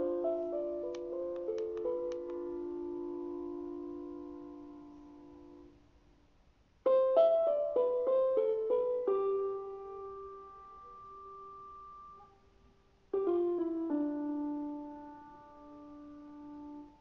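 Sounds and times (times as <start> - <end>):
piano music: 0.0 - 5.8, 6.8 - 17.0.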